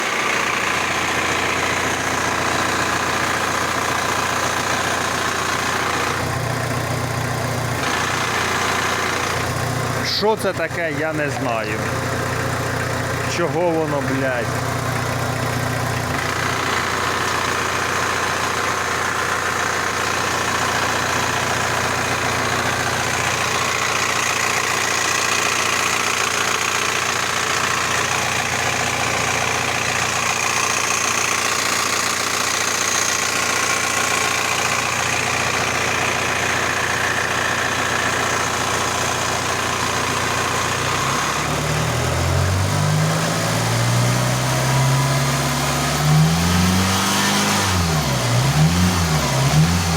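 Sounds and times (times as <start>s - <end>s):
engine idling with knock: 0.0s - 46.8s.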